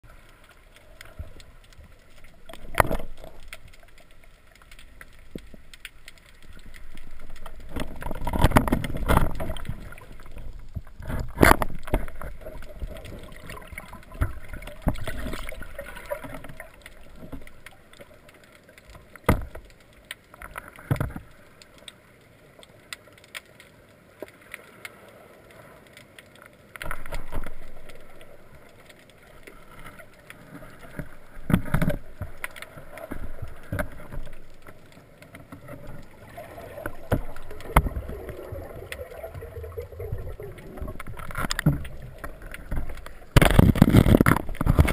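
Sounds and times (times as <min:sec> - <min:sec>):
water sloshing and gurgling: 0:00.0 - 0:44.9.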